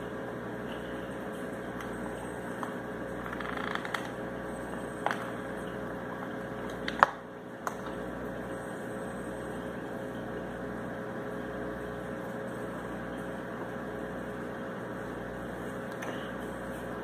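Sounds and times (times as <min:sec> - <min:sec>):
appliance fan humming: 0:00.0 - 0:17.0.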